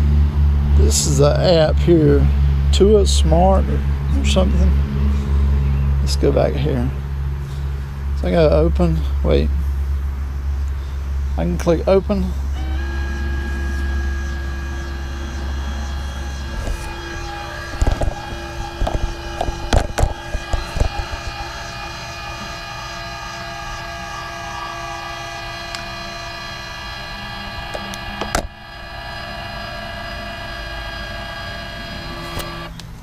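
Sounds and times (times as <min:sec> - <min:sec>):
actuator motor whine: 0:00.0 - 0:33.0.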